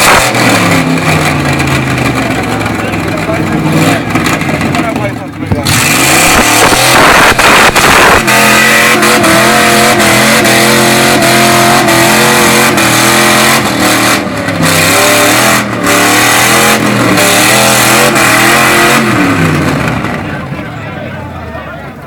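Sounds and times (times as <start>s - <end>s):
car engine at high revs: 0.0s - 20.6s
loud rough noise: 0.0s - 21.3s.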